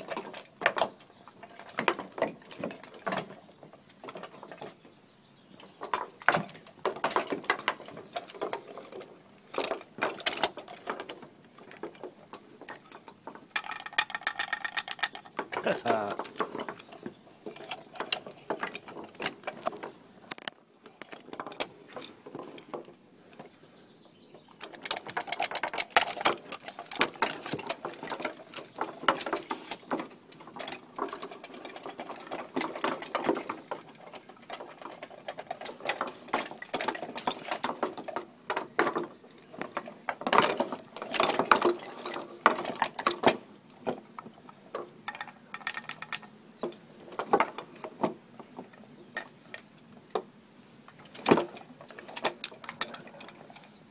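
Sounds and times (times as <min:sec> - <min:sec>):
wooden puppet clattering on boards: 0:00.0 - 0:04.9, 0:05.6 - 0:23.7, 0:24.3 - 0:53.9.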